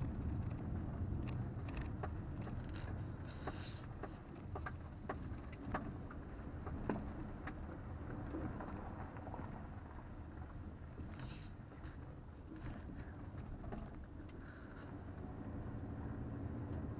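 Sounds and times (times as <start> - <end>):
car interior rumble: 0.0 - 16.9.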